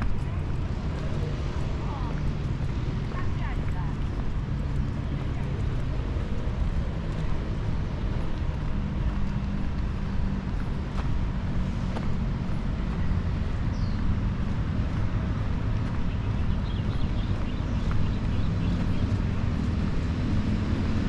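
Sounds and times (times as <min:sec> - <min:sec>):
low rumble of city traffic: 0:00.0 - 0:21.0.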